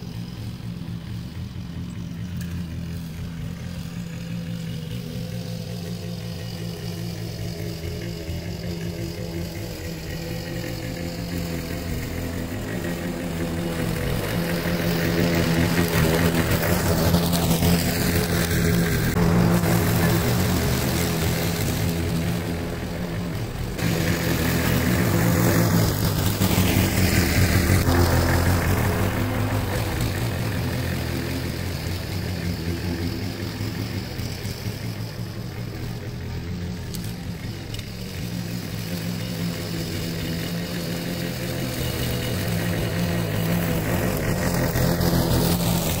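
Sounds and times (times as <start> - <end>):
lawn mower engine running: 0.0 - 46.0.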